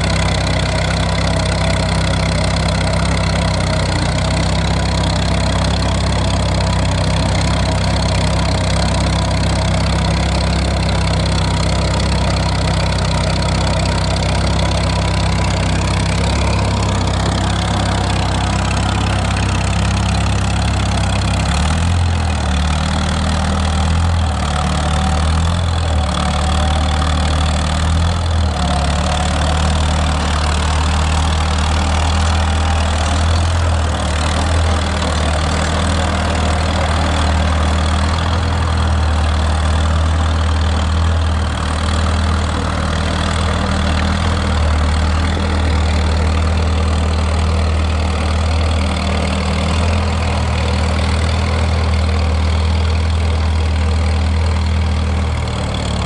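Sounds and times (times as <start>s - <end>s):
crawler tractor engine running: 0.0s - 56.0s.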